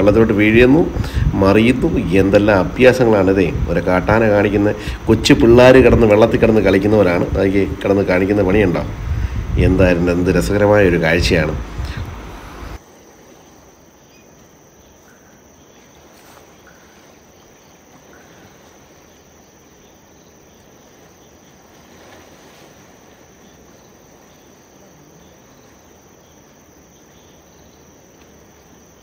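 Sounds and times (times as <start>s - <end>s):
faint even hiss: 0.0s - 29.0s
insects chirring: 0.0s - 29.0s.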